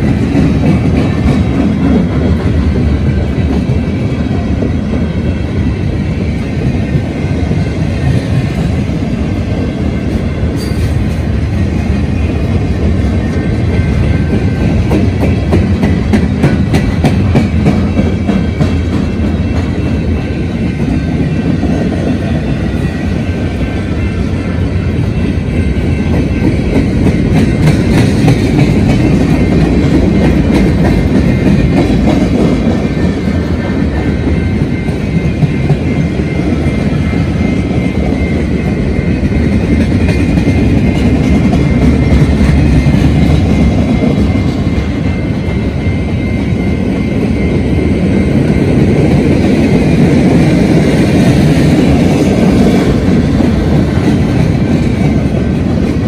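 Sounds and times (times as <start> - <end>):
clickety-clack over rail joints: 0.0 - 56.0
crossing bell ringing: 0.0 - 56.0
train wheels rumbling on rail: 0.0 - 56.0.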